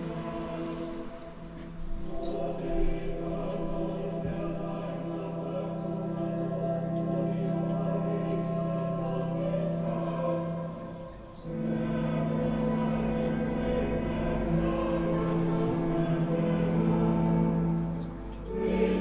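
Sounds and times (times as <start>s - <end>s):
choir singing a slow chant: 0.0s - 19.0s.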